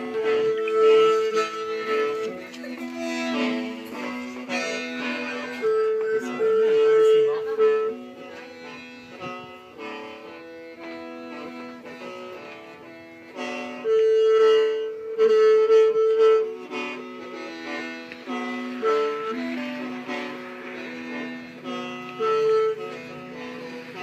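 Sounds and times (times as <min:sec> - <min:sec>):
bamboo mouth organ playing: 0:00.0 - 0:24.0.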